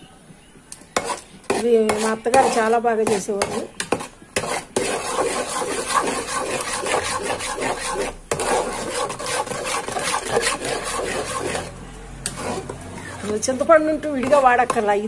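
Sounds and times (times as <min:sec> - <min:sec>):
spoon scraping a pot: 0:00.9 - 0:15.0.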